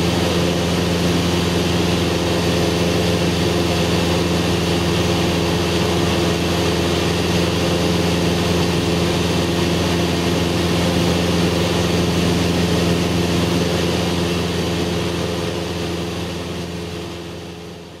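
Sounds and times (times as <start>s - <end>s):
propeller plane engine drone: 0.0s - 18.0s.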